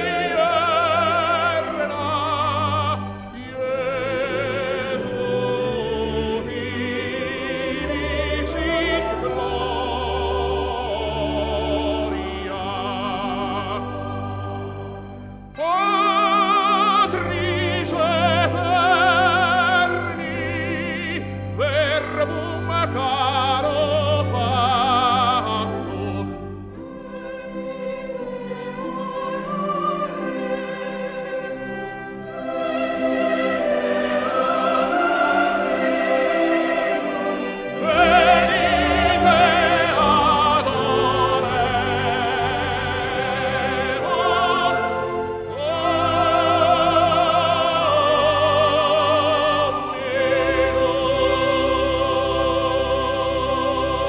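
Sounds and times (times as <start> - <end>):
orchestra playing: 0.0 - 54.0.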